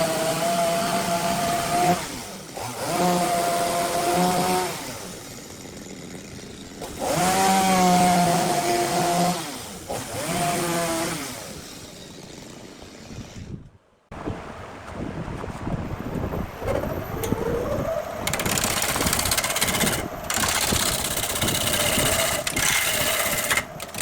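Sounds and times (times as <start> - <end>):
chainsaw cutting wood: 0.0 - 13.7, 18.3 - 24.0.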